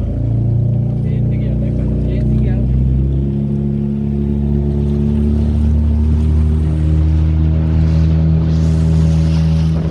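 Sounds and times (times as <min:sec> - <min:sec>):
motorboat engine droning: 0:00.0 - 0:09.9.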